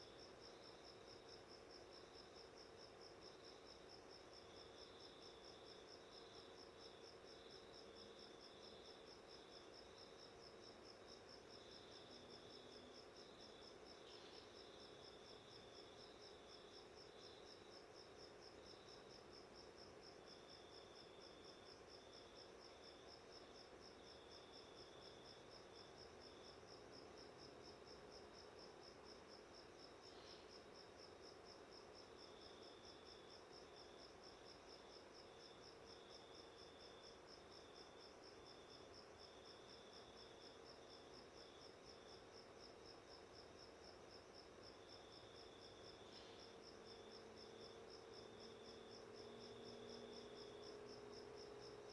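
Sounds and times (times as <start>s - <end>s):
insect chirping: 0.0s - 51.9s.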